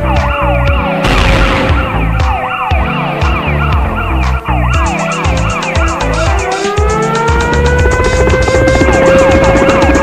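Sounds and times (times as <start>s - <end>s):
police siren yelping: 0.0s - 10.0s.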